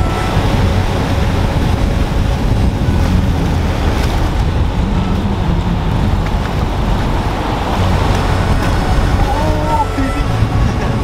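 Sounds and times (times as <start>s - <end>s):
breaking surf: 0.0s - 11.0s
wind buffeting microphone: 0.0s - 11.0s.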